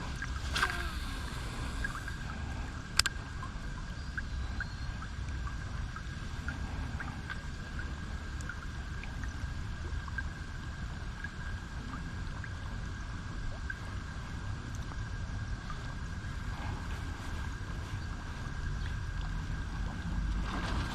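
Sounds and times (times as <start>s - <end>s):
faint high whine: 0.0s - 20.9s
river water flowing: 0.0s - 20.9s
wind rumble on microphone: 0.0s - 20.9s.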